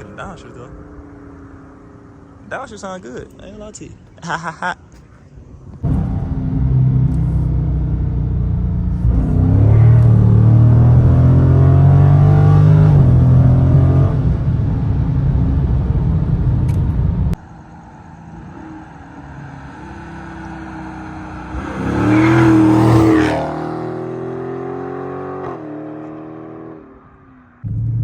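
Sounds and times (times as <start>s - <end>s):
car exhaust drone: 0.0s - 28.0s.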